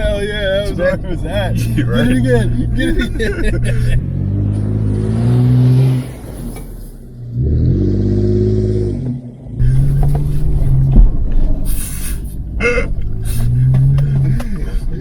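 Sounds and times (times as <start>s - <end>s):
suv engine revving hard: 1.4s - 6.3s, 7.3s - 14.5s.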